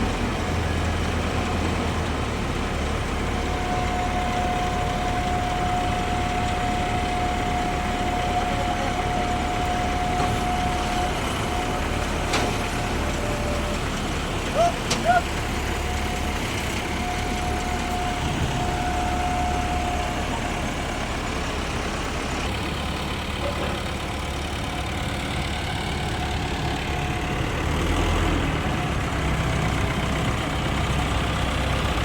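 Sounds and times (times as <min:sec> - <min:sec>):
vehicle engine idling: 0:00.0 - 0:32.0.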